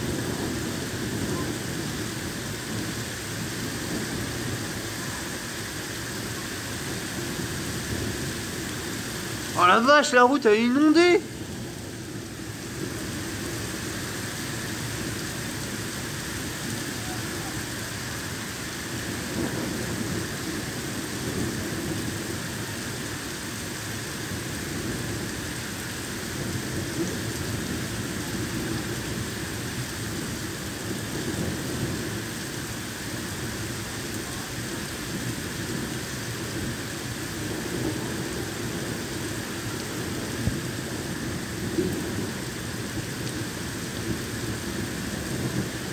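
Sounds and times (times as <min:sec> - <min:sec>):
heavy rain pouring on street: 0:00.0 - 0:45.9.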